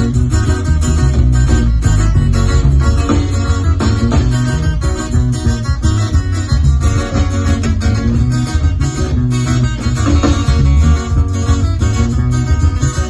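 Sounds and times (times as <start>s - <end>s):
band playing: 0.0s - 13.0s
pulsing bass line: 0.0s - 13.0s.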